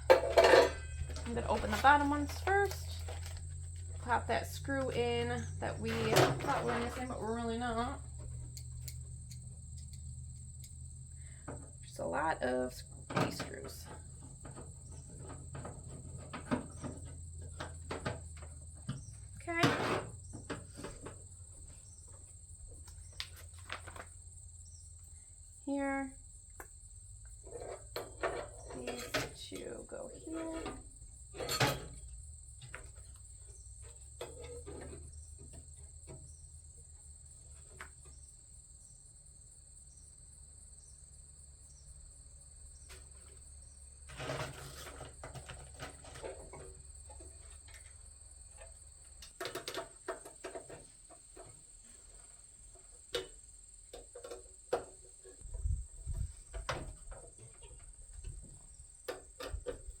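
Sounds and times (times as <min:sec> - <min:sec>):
crickets chirring: 0:00.0 - 1:00.0.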